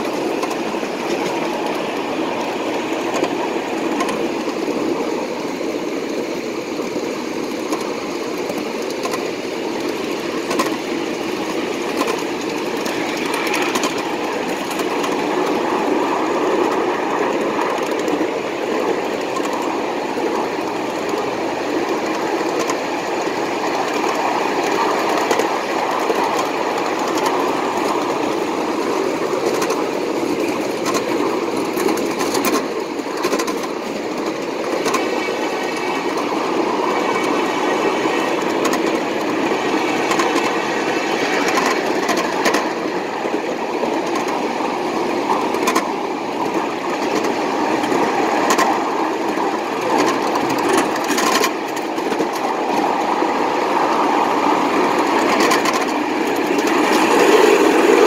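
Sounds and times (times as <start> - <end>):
model train wheels clickety-clack: 0.0 - 58.0
empty cars rattling: 7.4 - 58.0.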